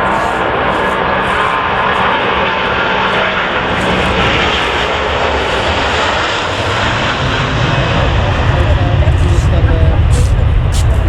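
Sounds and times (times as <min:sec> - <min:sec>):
jet engines passing: 0:00.0 - 0:11.0.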